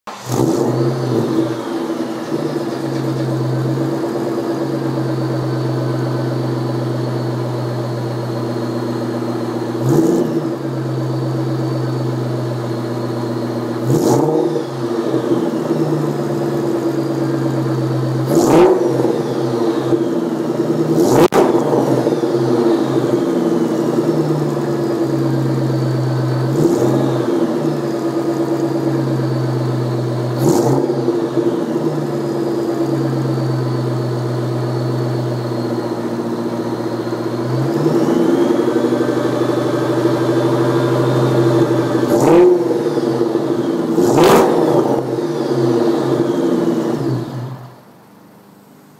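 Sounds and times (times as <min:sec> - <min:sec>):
car exhaust idling: 0:00.1 - 0:48.9.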